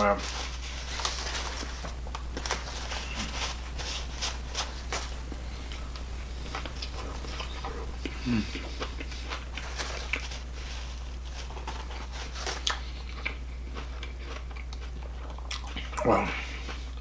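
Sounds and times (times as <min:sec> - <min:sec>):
low electrical hum: 0:00.0 - 0:17.0
person chewing food: 0:00.0 - 0:17.0.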